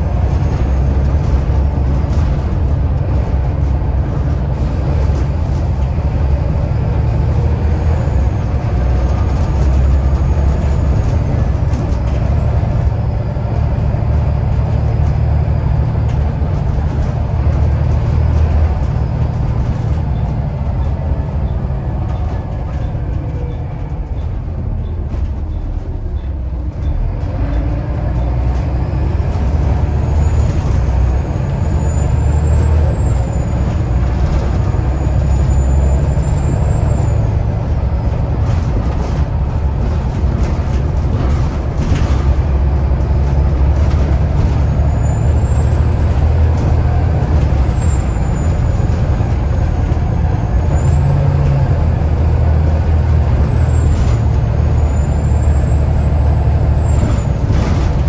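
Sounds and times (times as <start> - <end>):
diesel bus engine rumbling: 0.0 - 58.0.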